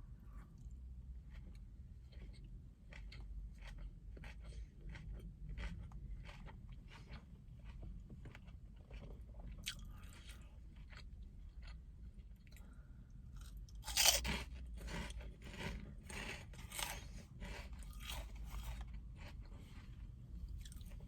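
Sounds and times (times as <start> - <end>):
chewing crunchy food: 0.3 - 21.0.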